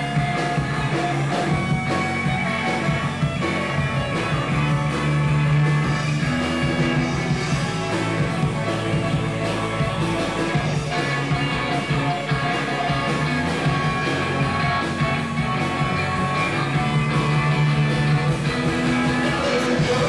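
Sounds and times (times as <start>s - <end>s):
bass guitar: 0.0s - 20.0s
drum kit beat: 0.0s - 20.0s
electric guitars: 0.0s - 20.0s.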